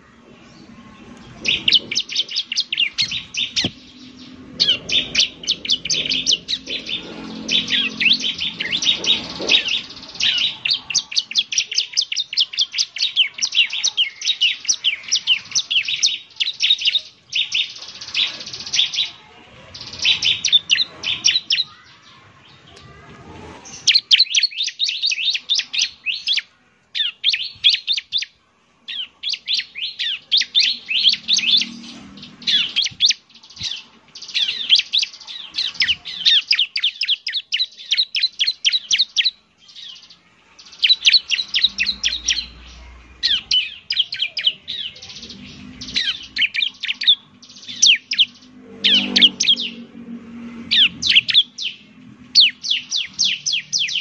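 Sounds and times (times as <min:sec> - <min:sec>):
bird singing high chirps: 0:00.0 - 0:23.0, 0:23.6 - 0:54.0.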